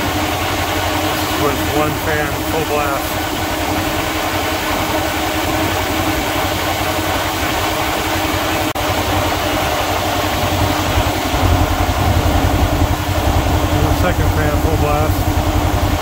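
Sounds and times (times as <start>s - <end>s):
engine idling: 0.0s - 16.0s
fan air rush: 0.0s - 16.0s.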